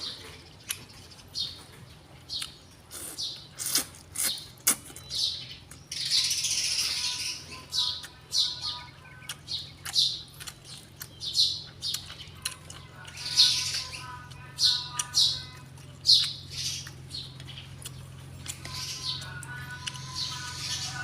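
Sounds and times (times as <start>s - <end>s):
steady low hum: 0.0s - 21.0s
bird chirping and squawking: 2.3s - 21.0s.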